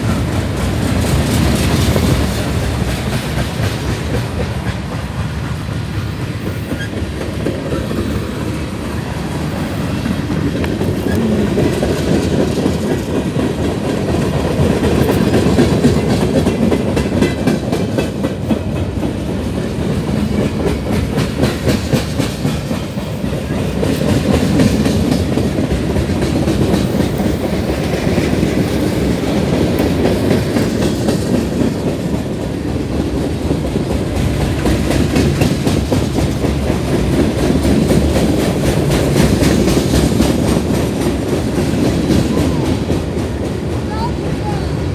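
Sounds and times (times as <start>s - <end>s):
train wheels clickety-clack: 0.0s - 44.9s.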